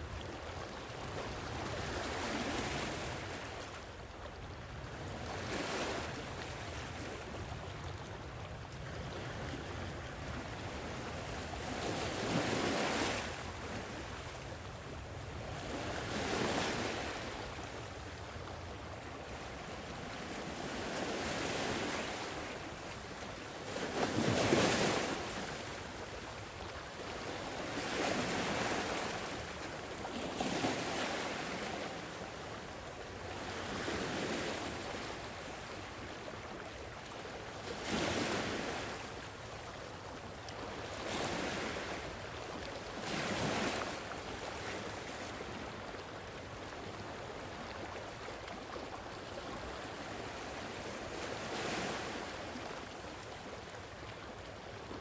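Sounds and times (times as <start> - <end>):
sea waves breaking on shore: 8.5 - 55.0.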